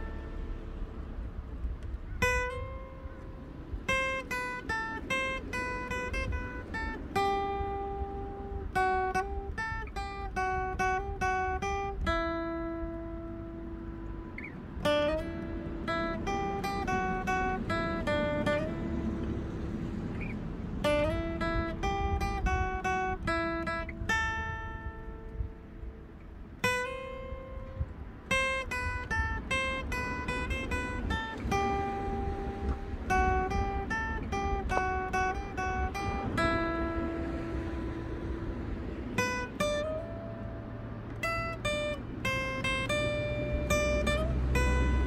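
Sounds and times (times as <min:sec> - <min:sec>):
acoustic guitar melody: 0:00.0 - 0:45.0.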